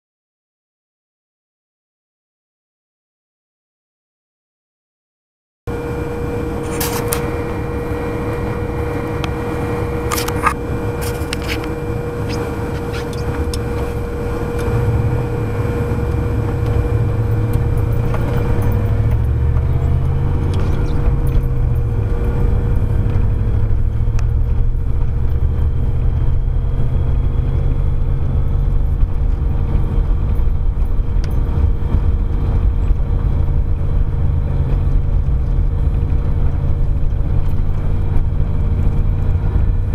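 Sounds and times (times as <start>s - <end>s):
engine and tyre drone: 5.7s - 39.9s.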